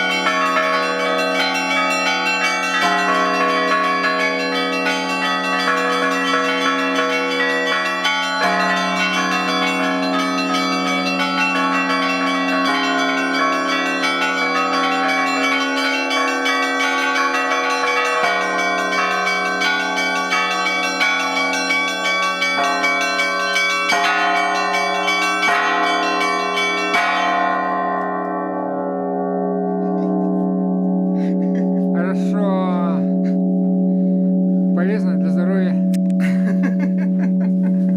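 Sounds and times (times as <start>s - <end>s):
church bells ringing: 0.0s - 37.9s
deep bell hum: 0.0s - 37.9s.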